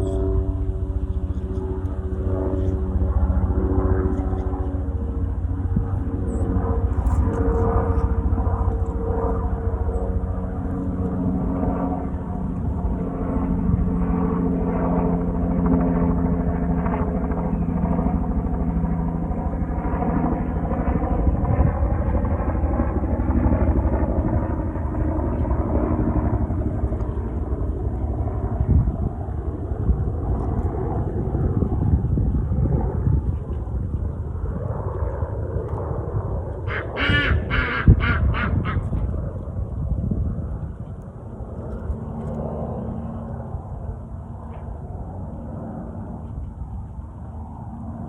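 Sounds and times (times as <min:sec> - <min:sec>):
engine drone: 0:00.0 - 0:48.0.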